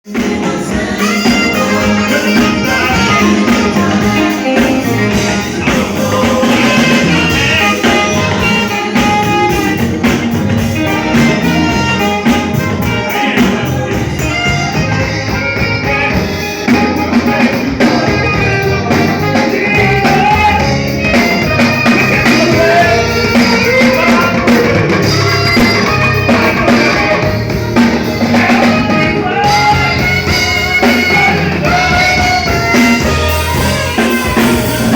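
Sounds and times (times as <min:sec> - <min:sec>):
live band playing: 0:00.0 - 0:34.9.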